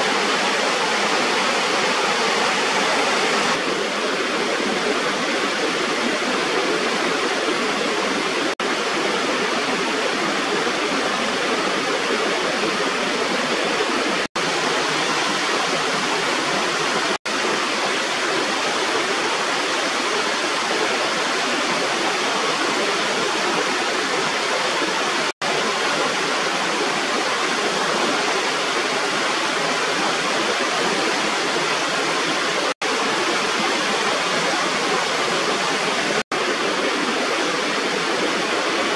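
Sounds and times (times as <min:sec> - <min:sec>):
water rushing over weir: 0:00.0 - 0:38.9.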